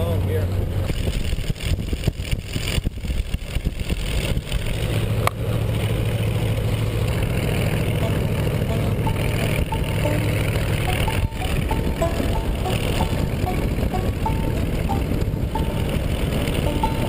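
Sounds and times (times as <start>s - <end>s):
car engine running while driving: 0.0s - 17.0s.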